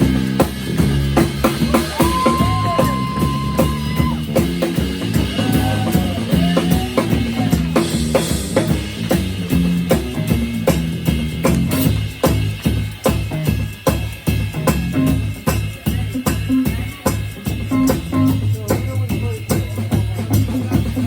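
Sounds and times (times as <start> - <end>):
bass drum and snare hits: 0.0 - 21.0
live rock band playing: 0.0 - 21.0.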